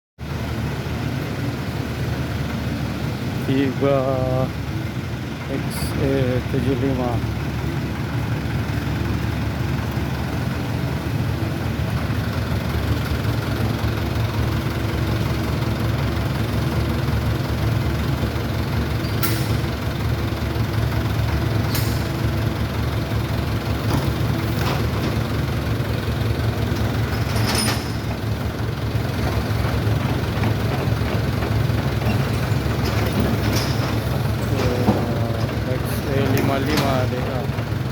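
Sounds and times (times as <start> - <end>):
excavator diesel engine running: 0.2 - 37.9.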